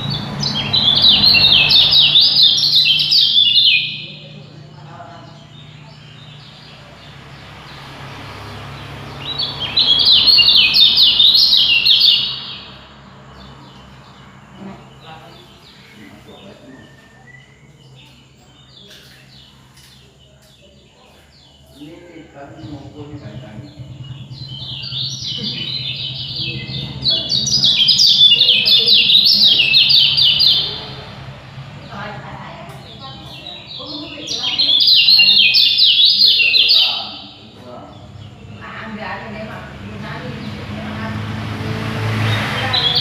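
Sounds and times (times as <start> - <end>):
songbird chirping: 0.0 - 43.0.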